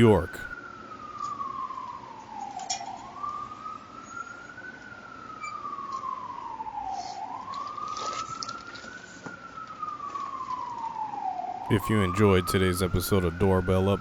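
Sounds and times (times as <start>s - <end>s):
emergency siren wailing: 0.0s - 0.5s, 1.3s - 14.0s.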